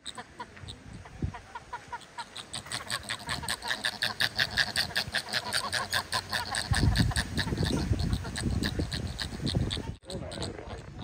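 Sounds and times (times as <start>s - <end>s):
flamingos honking: 0.0s - 11.0s.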